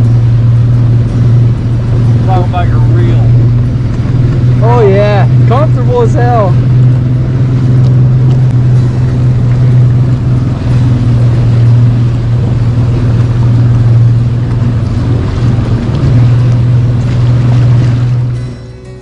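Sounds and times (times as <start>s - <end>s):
outboard motor running: 0.0s - 19.0s
water rushing along hull: 0.0s - 19.0s.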